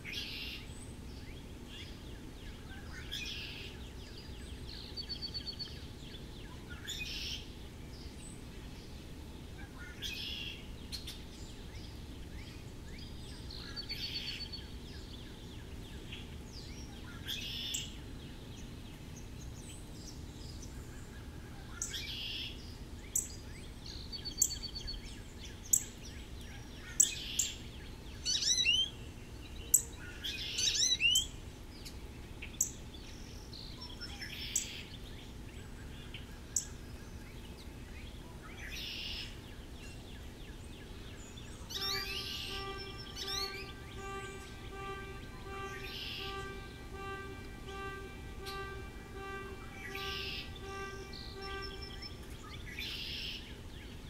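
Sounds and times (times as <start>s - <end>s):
songbirds chipping and trilling: 0.0s - 54.0s.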